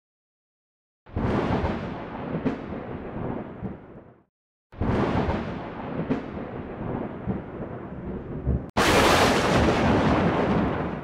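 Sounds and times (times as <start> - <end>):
thunder rumbling: 1.1 - 4.2, 4.8 - 11.0.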